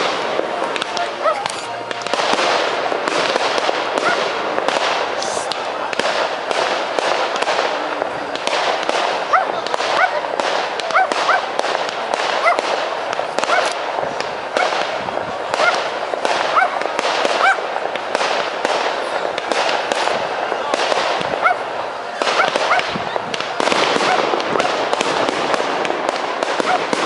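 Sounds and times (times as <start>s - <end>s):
fireworks crackling and popping: 0.0s - 27.0s.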